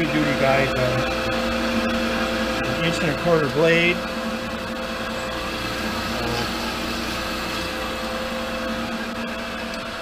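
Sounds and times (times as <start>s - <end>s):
band saw running idle: 0.0s - 10.0s.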